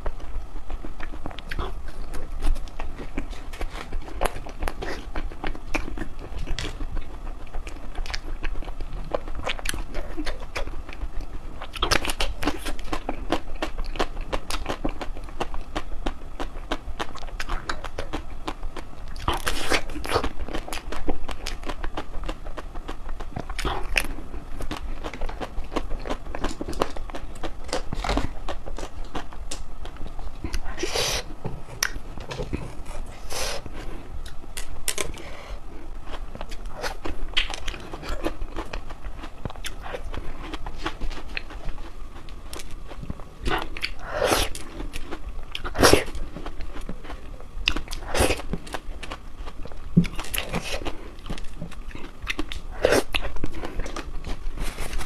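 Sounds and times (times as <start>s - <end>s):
crunching crispy ice cream: 0.0s - 33.3s, 35.9s - 55.0s.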